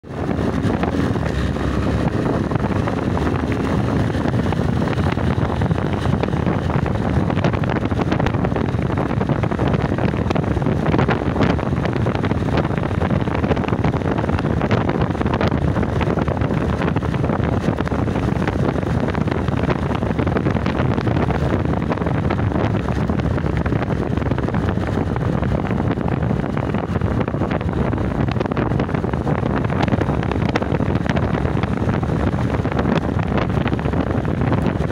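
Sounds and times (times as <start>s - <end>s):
motorcycle engine cruising: 0.0s - 34.9s
wind rush over microphone: 0.0s - 34.9s.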